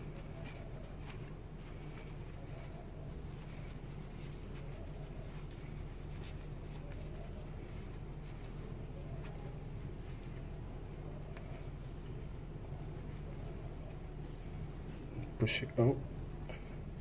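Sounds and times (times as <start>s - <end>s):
fabric rustling: 0.0s - 15.4s
steady low hum: 0.0s - 17.0s.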